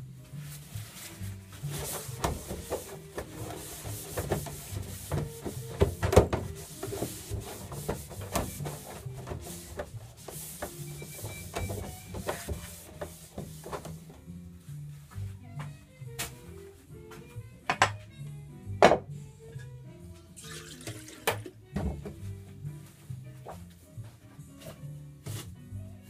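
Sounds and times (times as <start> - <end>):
background music: 0.0 - 26.0.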